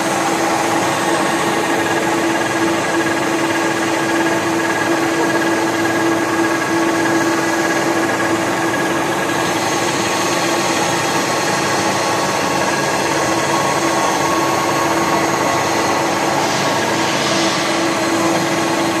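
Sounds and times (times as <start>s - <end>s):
machine hum with whine: 0.0s - 19.0s.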